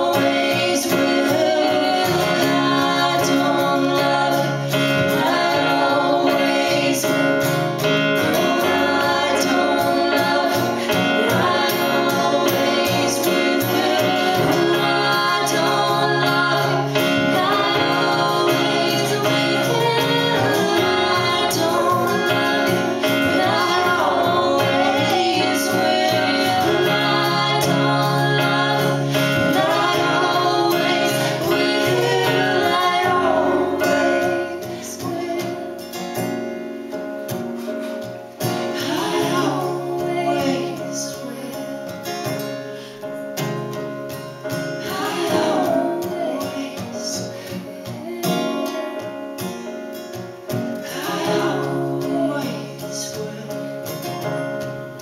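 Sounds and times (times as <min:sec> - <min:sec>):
man and woman singing in harmony: 0:00.0 - 0:36.4, 0:37.8 - 0:43.2, 0:44.5 - 0:55.0
strummed acoustic guitar: 0:00.0 - 0:55.0.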